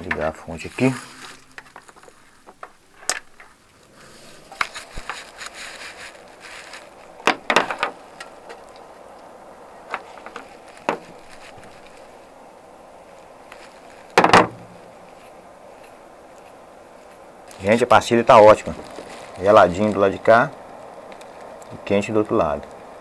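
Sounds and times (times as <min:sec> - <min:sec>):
wires and small parts handled: 0:00.0 - 0:21.9.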